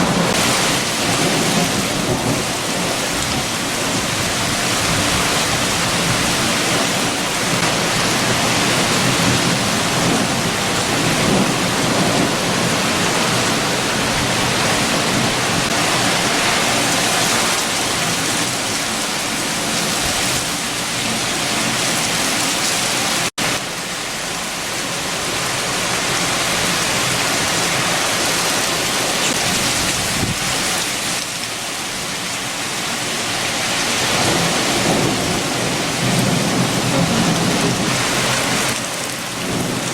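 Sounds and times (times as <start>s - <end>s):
heavy rain: 0.0s - 39.9s
strong wind: 0.0s - 39.9s.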